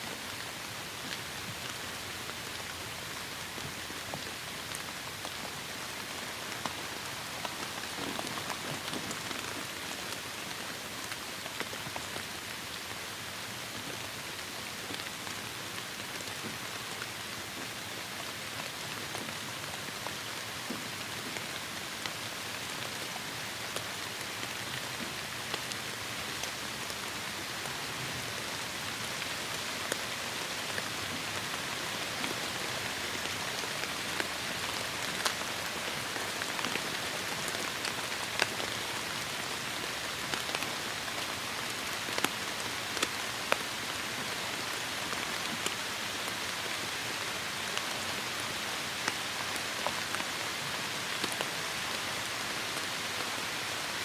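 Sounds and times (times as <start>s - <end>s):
heavy rain falling: 0.2s - 14.1s, 14.8s - 54.0s.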